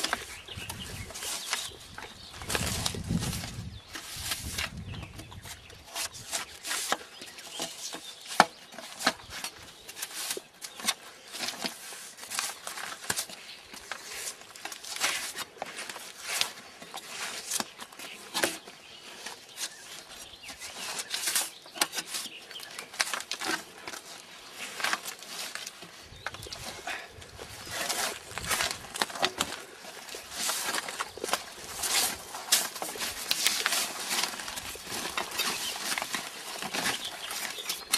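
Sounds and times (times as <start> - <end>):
wood cracking: 0.0 - 37.9.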